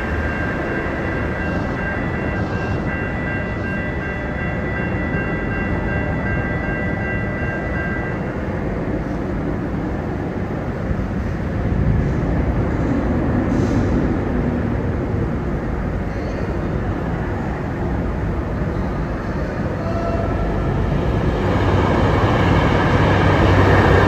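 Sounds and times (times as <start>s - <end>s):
crossing warning bell dinging: 0.0s - 10.9s, 15.4s - 24.0s.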